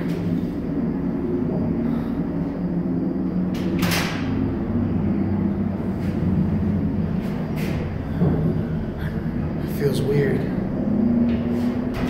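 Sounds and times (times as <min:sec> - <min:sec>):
truck rumbling: 0:00.0 - 0:12.0.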